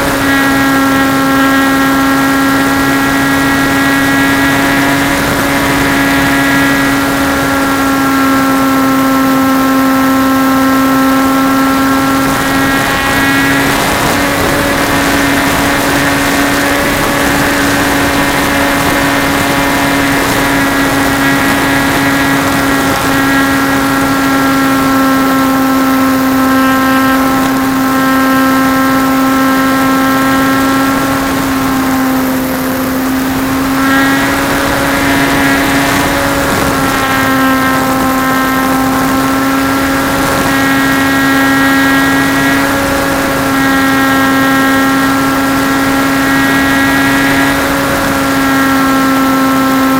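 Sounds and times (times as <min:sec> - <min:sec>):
model plane motor whine: 0:00.0 - 0:49.9.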